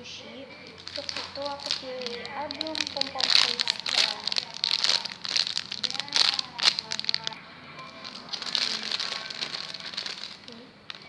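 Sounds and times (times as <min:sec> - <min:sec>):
plastic crinkling: 0:00.6 - 0:11.0.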